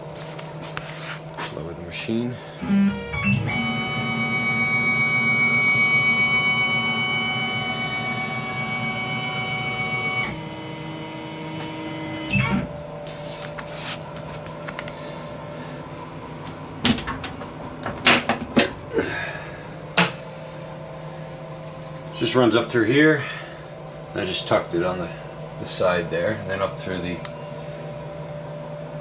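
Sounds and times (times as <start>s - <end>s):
mill axis drive whining: 1.6s - 29.0s.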